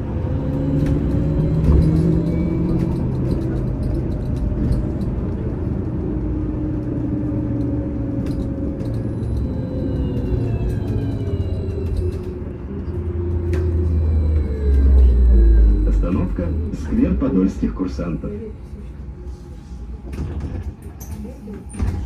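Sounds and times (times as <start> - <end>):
road rumble: 0.0 - 22.0.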